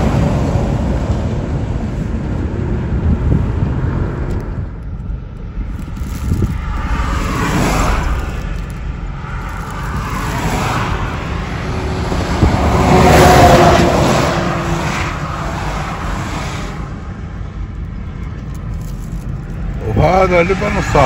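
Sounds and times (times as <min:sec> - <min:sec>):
rush of passing air: 0:00.0 - 0:17.7
car road and engine noise: 0:00.0 - 0:21.0.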